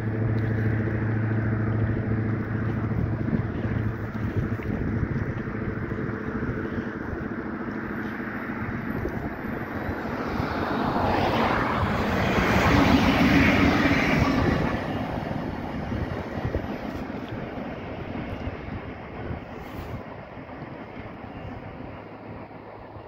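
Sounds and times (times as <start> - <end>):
locomotive hum: 0.0 - 23.0
train wheels rumbling on rail: 0.0 - 23.0.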